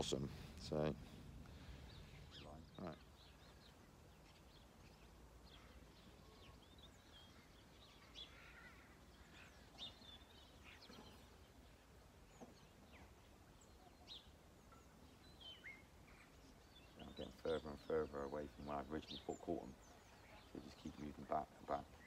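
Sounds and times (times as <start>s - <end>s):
faint birdsong chirps: 0.0s - 22.0s.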